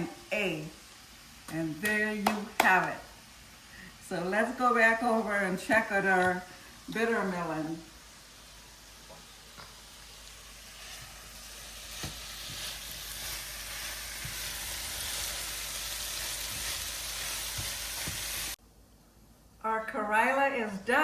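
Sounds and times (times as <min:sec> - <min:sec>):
vegetable sizzling in a pan: 0:00.0 - 0:18.6.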